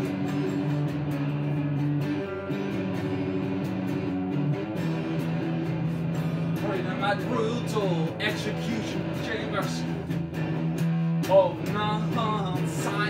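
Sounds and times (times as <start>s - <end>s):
electric guitar sustained notes: 0.0s - 13.0s.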